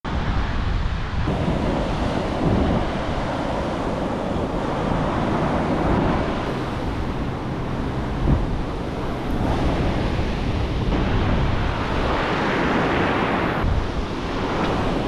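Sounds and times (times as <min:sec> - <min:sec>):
wind noise on microphone: 0:00.0 - 0:15.0
ocean surf breaking: 0:00.1 - 0:15.0.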